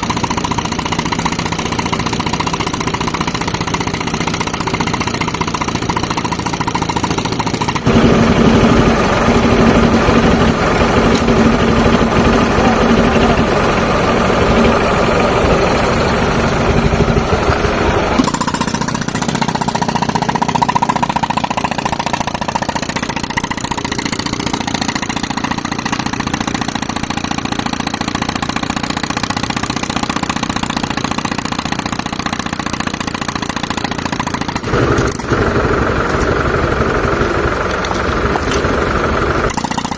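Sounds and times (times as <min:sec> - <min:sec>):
pneumatic rock breaker hammering: 0:00.0 - 0:39.9
tractor engine running: 0:00.0 - 0:39.9.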